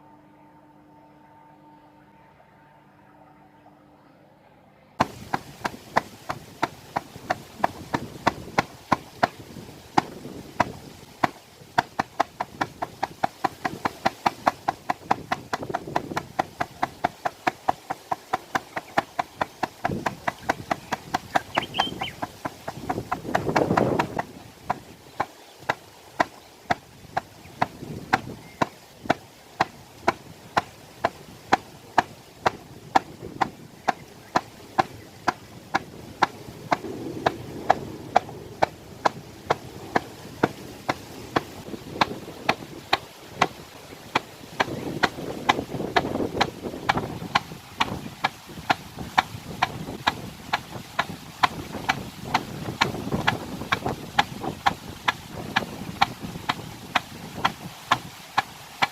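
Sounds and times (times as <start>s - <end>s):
frame drum steady beat: 5.0s - 25.3s, 29.1s - 58.0s.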